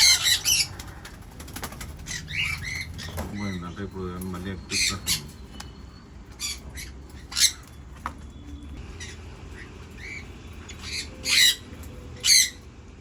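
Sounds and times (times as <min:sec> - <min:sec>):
budgerigars squawking and chirping: 0:00.0 - 0:08.0, 0:08.8 - 0:12.8.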